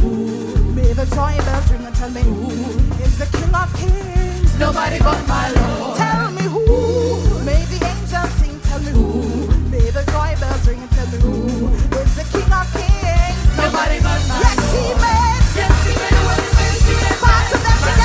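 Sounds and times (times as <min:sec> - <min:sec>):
upbeat gospel band music: 0:00.0 - 0:18.0.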